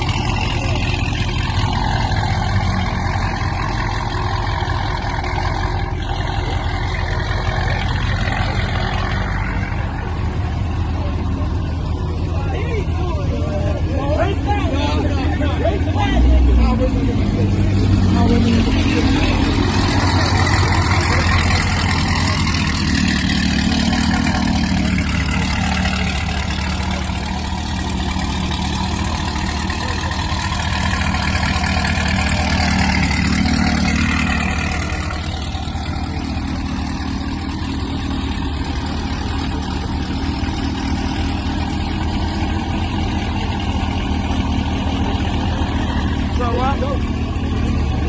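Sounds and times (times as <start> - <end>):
car engines rumbling: 0.0 - 48.0.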